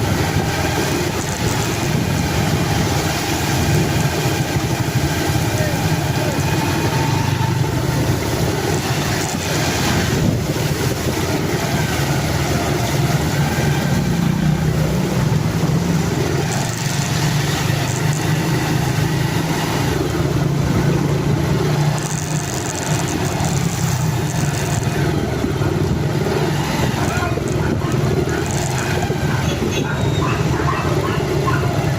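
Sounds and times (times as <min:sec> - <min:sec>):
continuous rushing noise: 0:00.0 - 0:31.9
vehicle engine running: 0:00.0 - 0:31.9.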